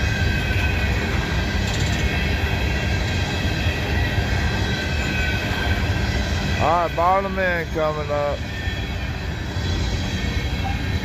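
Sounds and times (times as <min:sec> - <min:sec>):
freight cars rumbling on rails: 0:00.0 - 0:11.0.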